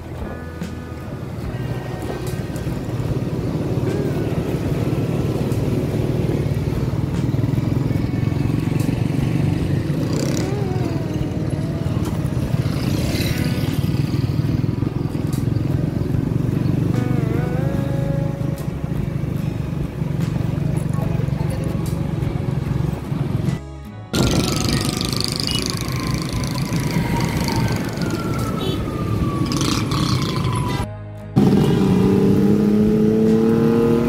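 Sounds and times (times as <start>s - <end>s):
vehicle engine hum and road noise: 0.0s - 34.0s.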